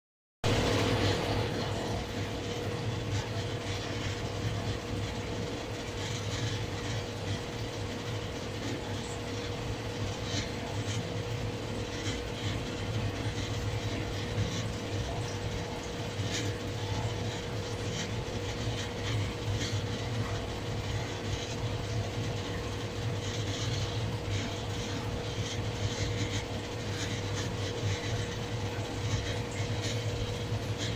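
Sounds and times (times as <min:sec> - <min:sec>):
aquarium pumps humming: 0:00.4 - 0:30.9.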